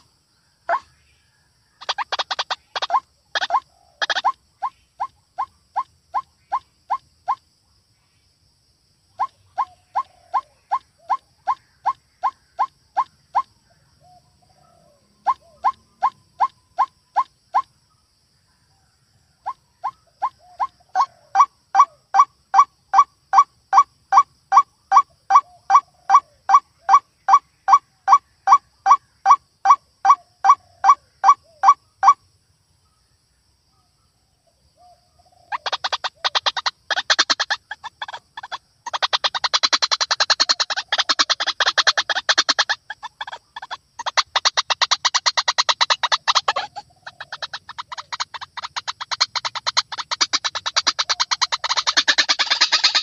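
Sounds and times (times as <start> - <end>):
bird sharp calls: 0.0 - 7.5, 9.1 - 17.7, 19.4 - 32.2, 34.8 - 53.0
bird chattering calls: 0.7 - 1.0, 1.8 - 7.4, 9.1 - 17.7, 19.4 - 32.2, 35.3 - 53.0.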